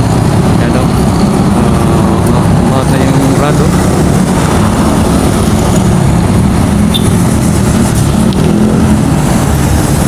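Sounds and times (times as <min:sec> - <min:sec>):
engine low rumble: 0:00.0 - 0:10.0.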